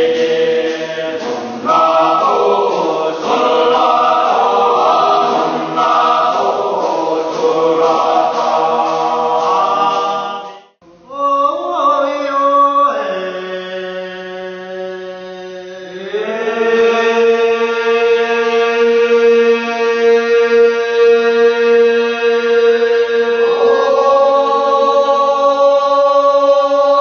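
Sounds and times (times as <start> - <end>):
men's chorus chanting: 0.0 - 27.0.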